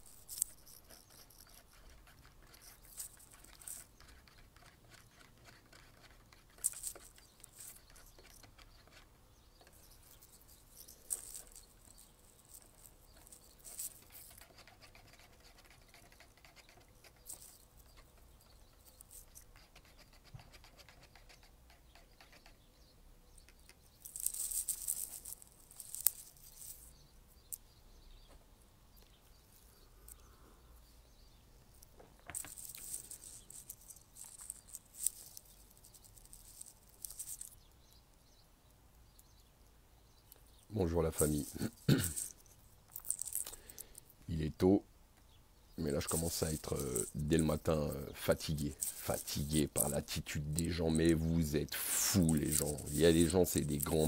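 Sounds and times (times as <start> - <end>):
rustling and scratching: 0.0 - 38.4, 39.1 - 54.0.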